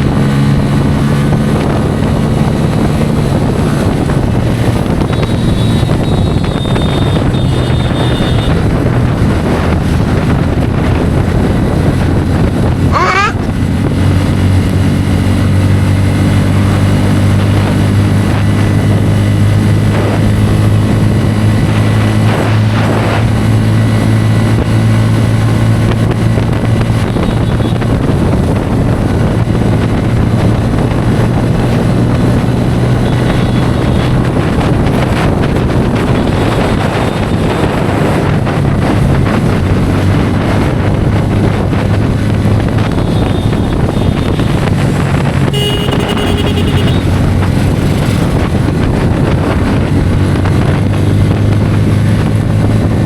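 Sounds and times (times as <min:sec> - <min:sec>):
motorcycle engine cruising: 0:00.0 - 0:53.0
wind rushing over microphone: 0:00.0 - 0:53.0.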